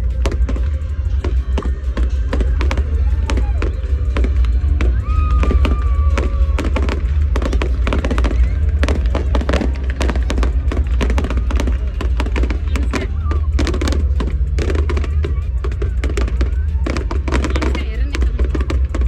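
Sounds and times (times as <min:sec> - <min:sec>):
fireworks bangs and crackles: 0:00.0 - 0:19.0
low rumble: 0:00.0 - 0:19.0
music playing: 0:00.0 - 0:19.0.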